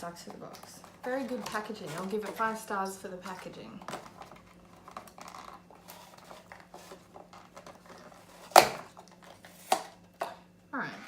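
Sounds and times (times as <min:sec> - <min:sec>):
packaging rustling: 0:00.0 - 0:02.6, 0:03.2 - 0:10.3.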